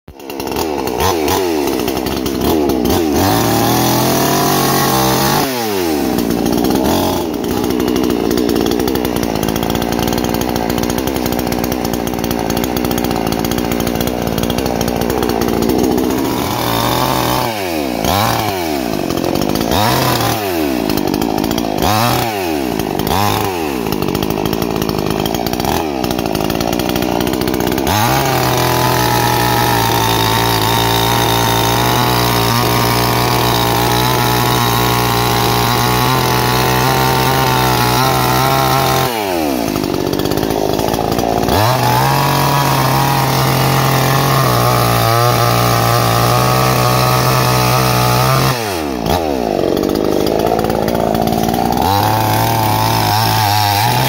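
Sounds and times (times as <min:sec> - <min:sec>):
chainsaw revving: 0:00.1 - 0:54.0.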